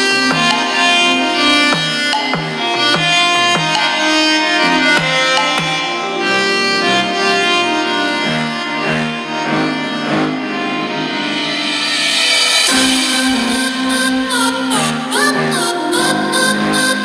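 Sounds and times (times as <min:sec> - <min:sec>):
instrumental music with held notes: 0:00.0 - 0:17.0.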